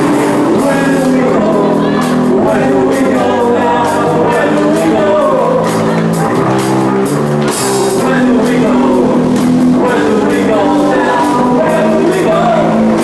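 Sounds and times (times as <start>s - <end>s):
person singing: 0.0s - 6.7s, 7.9s - 13.0s
bass: 0.0s - 13.0s
drum kit with cymbals: 0.0s - 13.0s
electric guitars: 0.0s - 13.0s.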